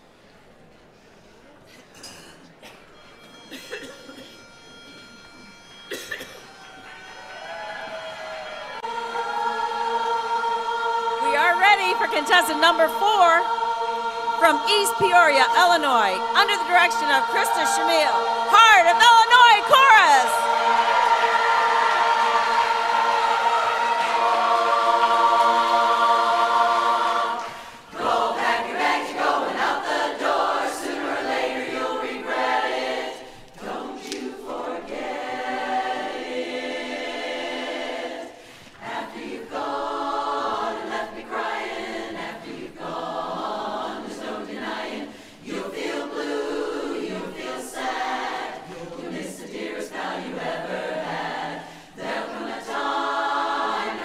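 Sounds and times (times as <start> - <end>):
women's chorus singing a cappella: 8.6 - 54.0.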